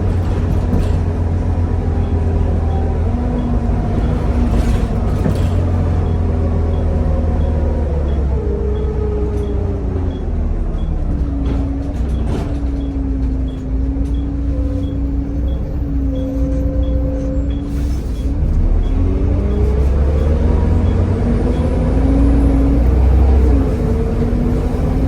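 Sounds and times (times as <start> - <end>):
bus engine drone with whine: 0.0 - 25.0.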